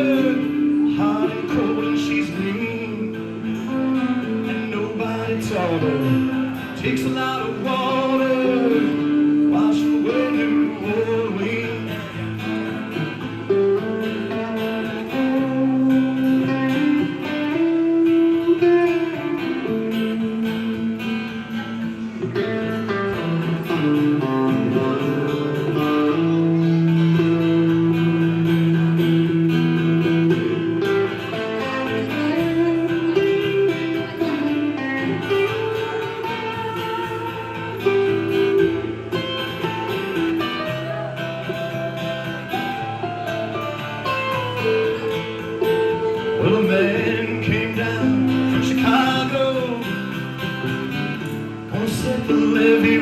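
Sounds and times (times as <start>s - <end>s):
country blues guitars: 0.0s - 53.0s.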